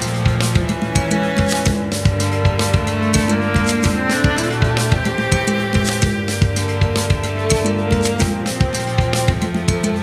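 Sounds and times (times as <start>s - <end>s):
drum-kit beat: 0.0s - 10.0s.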